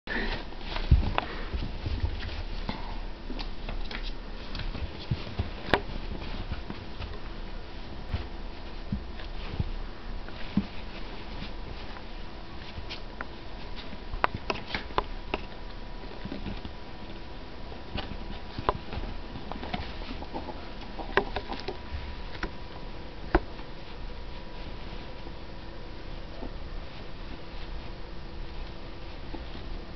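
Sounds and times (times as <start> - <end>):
ferrets scuffling on fabric: 0.1 - 29.9.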